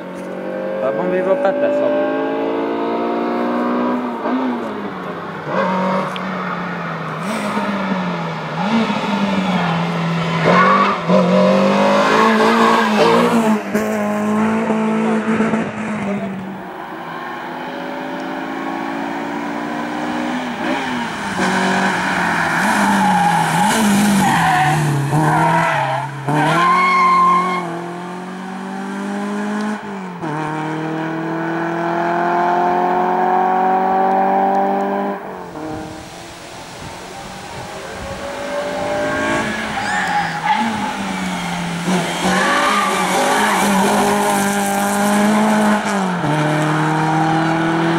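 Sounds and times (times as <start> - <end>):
car engine revving hard: 0.4 - 4.8, 7.2 - 16.6, 17.8 - 47.9.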